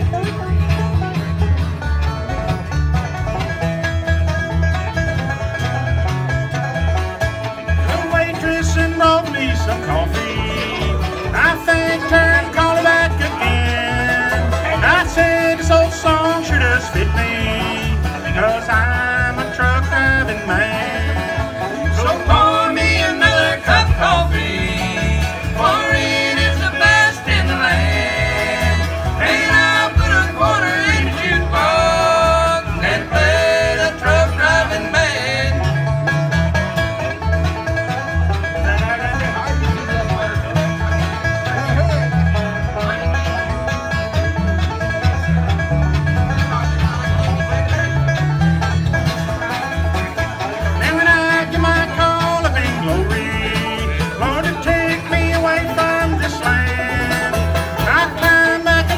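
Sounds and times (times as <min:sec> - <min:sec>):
acoustic guitar: 0:00.0 - 0:58.9
banjo: 0:00.0 - 0:58.9
fiddle: 0:00.0 - 0:58.9
upright bass: 0:00.0 - 0:58.9.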